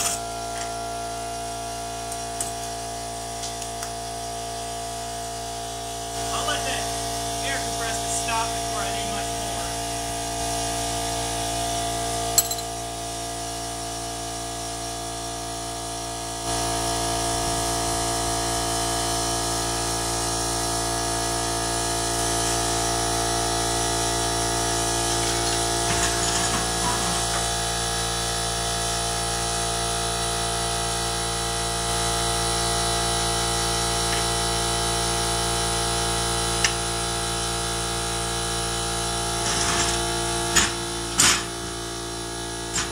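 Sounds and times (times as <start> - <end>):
air compressor running: 0.0 - 42.9.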